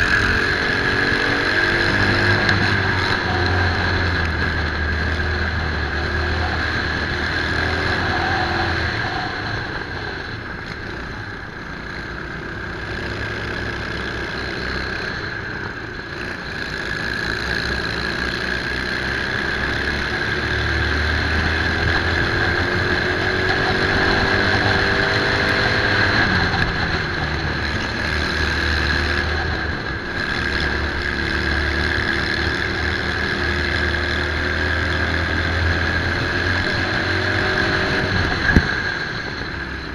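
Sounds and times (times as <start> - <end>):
kart engine at speed: 0.0 - 39.9.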